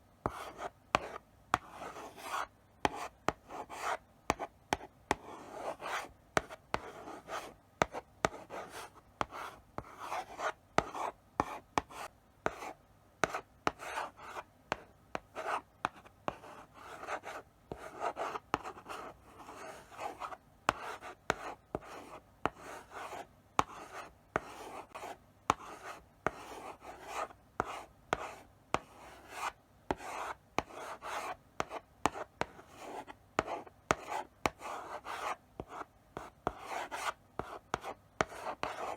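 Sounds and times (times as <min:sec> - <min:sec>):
chalk scratching on blackboard: 0:00.3 - 0:14.8, 0:15.4 - 0:38.9.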